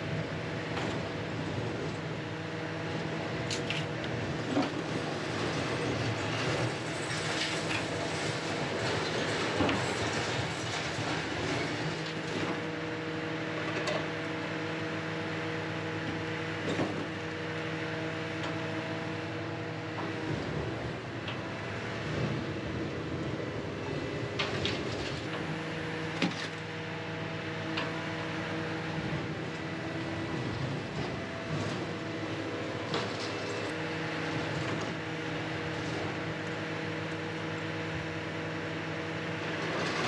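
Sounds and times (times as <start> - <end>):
diesel engine and hydraulics drone: 0.0 - 40.0.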